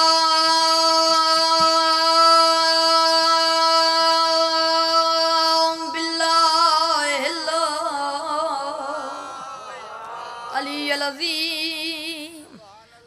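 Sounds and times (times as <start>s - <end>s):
boy singing into microphone: 0.0s - 9.4s, 10.5s - 12.6s.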